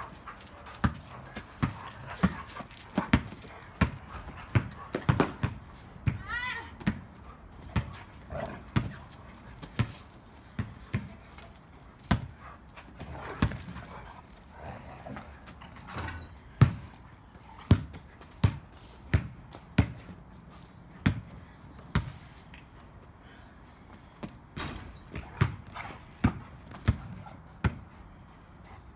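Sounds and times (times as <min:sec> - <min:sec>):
dogs thumping and scuffling: 0:00.0 - 0:06.2, 0:06.8 - 0:23.2, 0:23.8 - 0:28.9.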